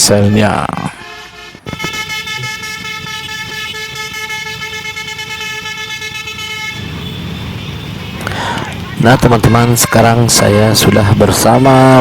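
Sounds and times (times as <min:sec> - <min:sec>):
bus air horn chord: 0:00.0 - 0:12.0.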